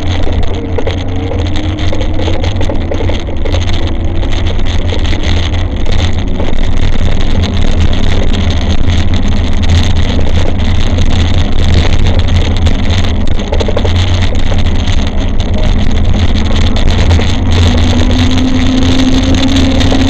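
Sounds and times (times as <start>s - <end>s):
bike riding on paving rumble: 0.0s - 20.0s
rattling clicks: 0.0s - 20.0s.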